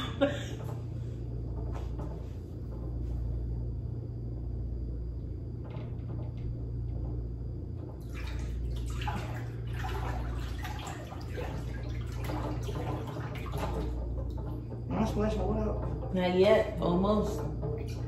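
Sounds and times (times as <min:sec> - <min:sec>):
low hum: 0:00.0 - 0:18.0
water sloshing in a tank: 0:00.0 - 0:18.0.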